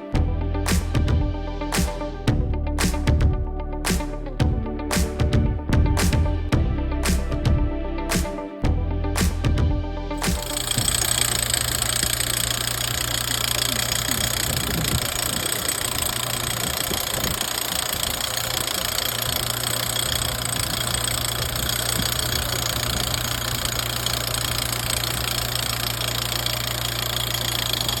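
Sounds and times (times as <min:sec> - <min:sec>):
excavator engine running: 0:00.2 - 0:28.0.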